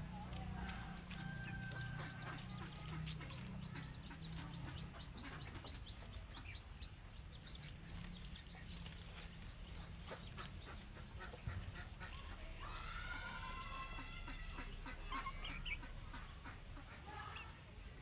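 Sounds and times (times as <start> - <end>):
chickens peeping and clucking: 0.0 - 18.0.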